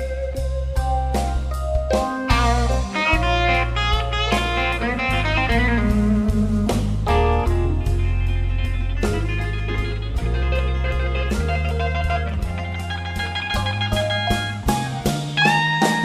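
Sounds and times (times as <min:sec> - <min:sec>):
electric blues band playing: 0:00.0 - 0:16.0
electric guitar lead: 0:00.0 - 0:16.0.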